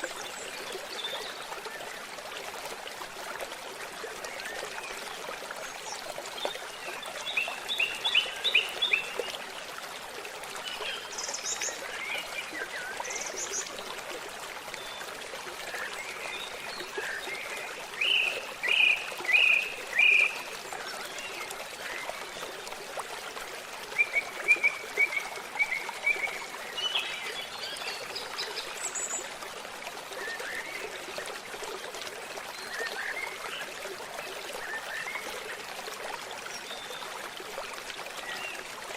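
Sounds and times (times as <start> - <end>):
babbling stream: 0.0 - 38.9.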